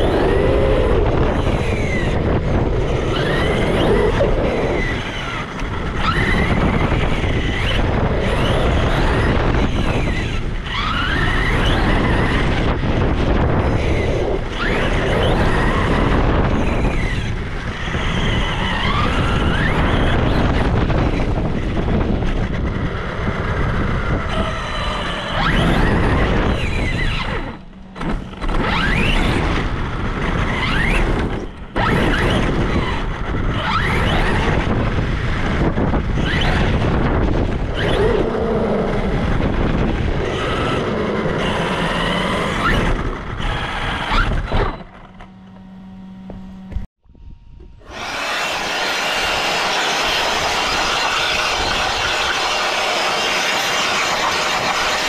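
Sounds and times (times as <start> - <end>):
electric motor whining: 0.0 - 55.0
tyres and chassis rumble: 0.0 - 55.0.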